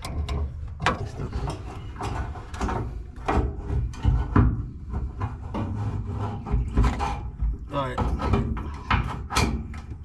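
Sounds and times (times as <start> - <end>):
cover knocks clicks and scraping: 0.0 - 10.0
low rumbling handling noise: 0.0 - 10.0.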